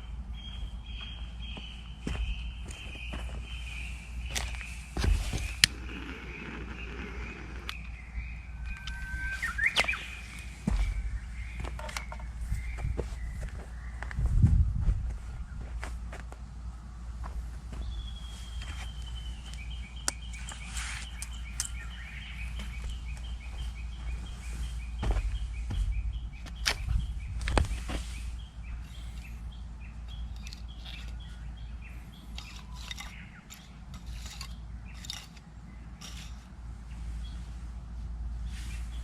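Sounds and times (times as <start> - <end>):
bird singing: 0.0 - 14.3, 15.2 - 16.0, 17.7 - 37.6
steady low rumble: 0.0 - 39.0.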